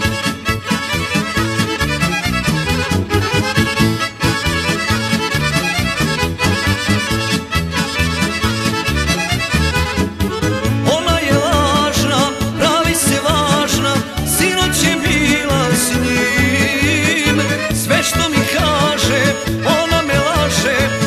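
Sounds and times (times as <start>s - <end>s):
accordion melody: 0.0s - 21.0s
bass: 0.0s - 21.0s.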